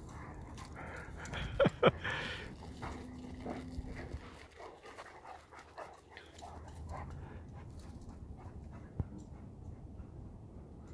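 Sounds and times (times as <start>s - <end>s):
dog panting: 0.0s - 10.9s.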